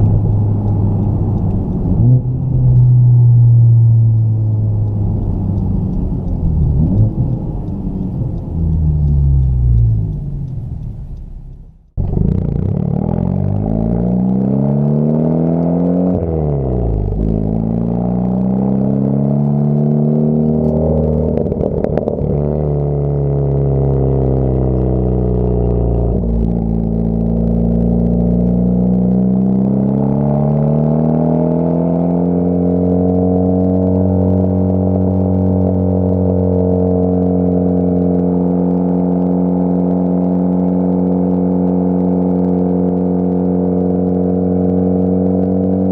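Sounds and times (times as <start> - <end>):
car engine accelerating through gears: 0.0 - 45.9
exhaust drone: 0.0 - 45.9.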